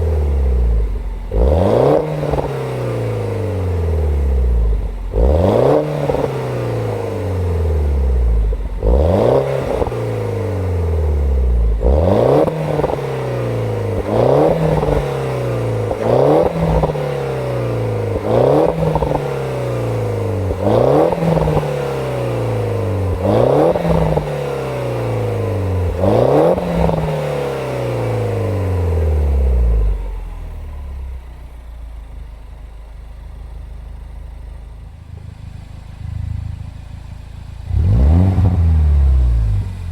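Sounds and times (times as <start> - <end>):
car engine revving: 0.0 - 31.1, 32.8 - 39.9
car engine idling: 0.0 - 39.9.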